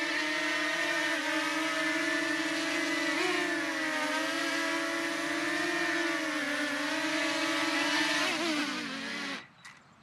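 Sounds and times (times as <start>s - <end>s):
drone propellers humming: 0.0s - 9.6s.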